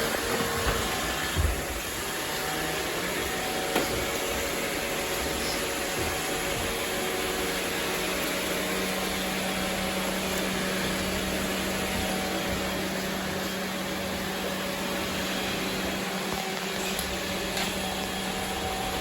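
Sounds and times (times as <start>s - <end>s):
robot vacuum cleaner suction: 0.0s - 19.0s.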